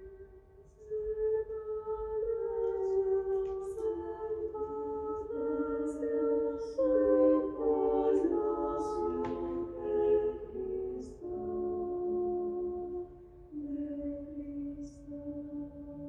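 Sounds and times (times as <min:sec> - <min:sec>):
women singing a cappella: 0:00.8 - 0:16.0.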